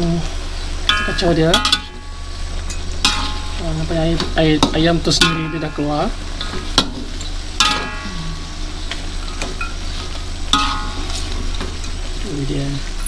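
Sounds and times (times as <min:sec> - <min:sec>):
chicken sizzling: 0:00.0 - 0:13.0
metal spatula scraping wok: 0:00.6 - 0:12.2.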